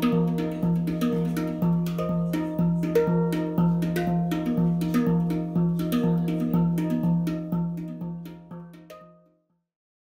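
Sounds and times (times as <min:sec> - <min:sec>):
handpan played with hands: 0:00.0 - 0:09.4.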